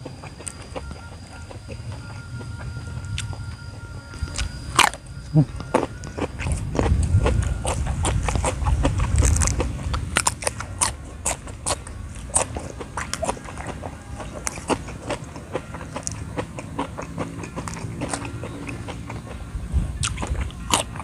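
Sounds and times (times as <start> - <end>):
crunching and chewing: 0.0 - 21.0
low rumble: 0.0 - 21.0.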